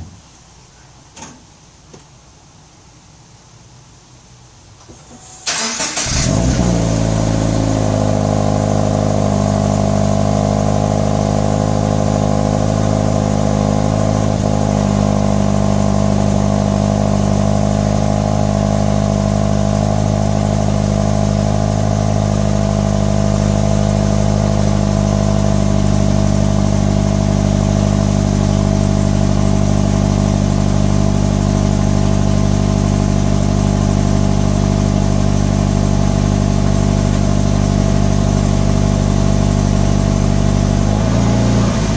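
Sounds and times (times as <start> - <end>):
car engine idling: 5.2 - 41.9.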